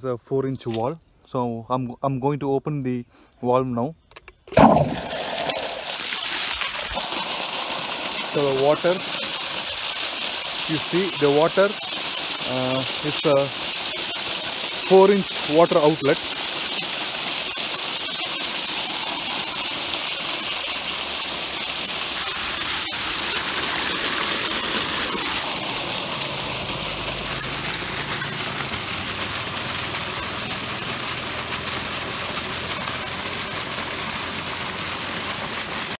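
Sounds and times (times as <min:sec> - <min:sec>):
water gushing from pipe: 0:04.6 - 0:36.0
water splashing onto soil: 0:04.6 - 0:36.0.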